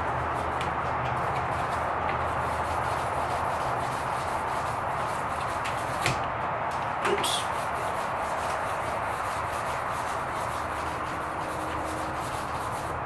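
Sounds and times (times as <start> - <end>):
sandpaper rubbing back and forth: 0.0 - 6.2, 6.8 - 13.0.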